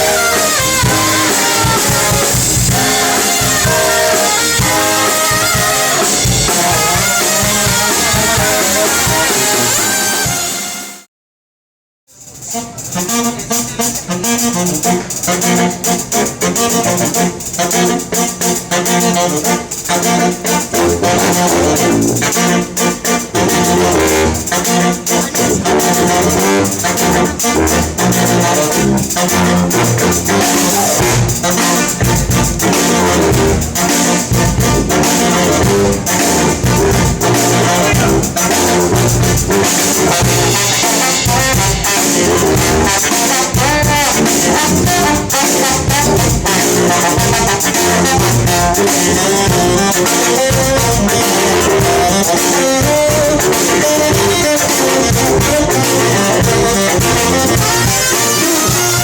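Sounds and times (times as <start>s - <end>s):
pulsing bass line: 0.0s - 9.9s, 20.2s - 59.0s
steady drum beat: 0.0s - 10.6s, 12.2s - 59.0s
brass band playing jazzy music: 0.0s - 11.1s, 12.1s - 59.0s.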